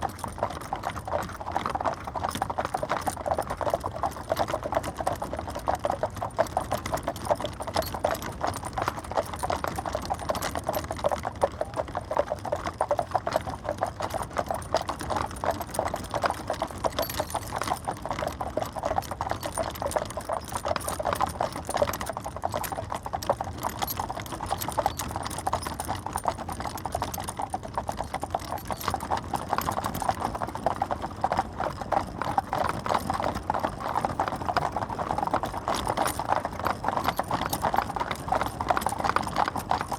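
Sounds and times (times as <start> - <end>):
horse hooves clip-clopping on road: 0.0 - 39.9.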